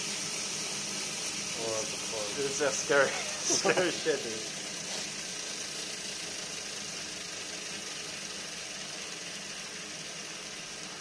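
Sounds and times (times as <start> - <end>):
electric motor spinning propeller: 0.0 - 11.0.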